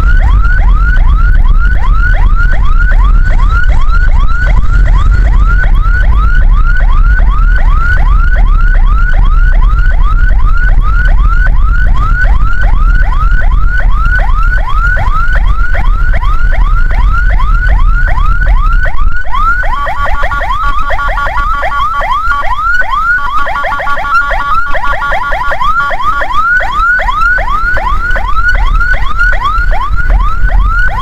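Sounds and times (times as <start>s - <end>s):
ambulance siren yelping: 0.0s - 31.0s
engine and road rumble: 0.0s - 31.0s
steady pulsing tone: 0.0s - 31.0s.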